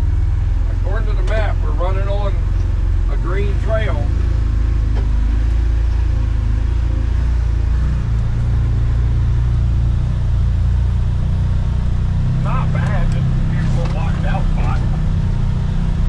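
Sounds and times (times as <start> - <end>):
utility vehicle engine droning: 0.0 - 16.0.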